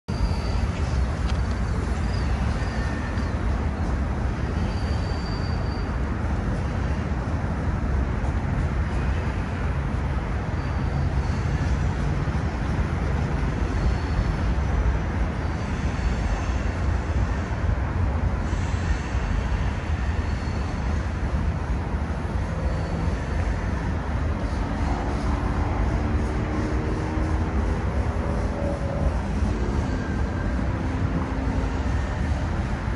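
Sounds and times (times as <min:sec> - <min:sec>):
freight train rumbling over bridge: 0:00.1 - 0:32.9.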